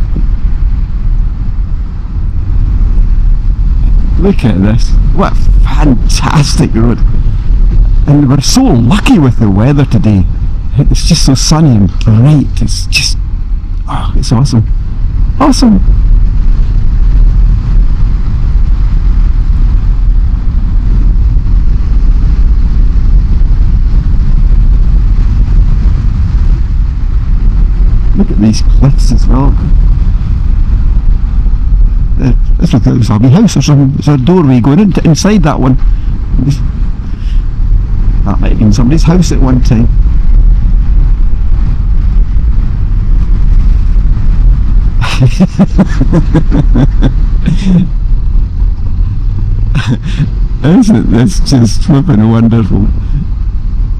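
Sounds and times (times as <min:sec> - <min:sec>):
motorcycle engine: 0:00.0 - 0:53.9
wind buffeting microphone: 0:00.0 - 0:53.9.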